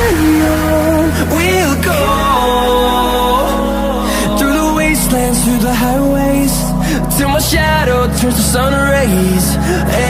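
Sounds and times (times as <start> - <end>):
background pop music: 0.0 - 10.0.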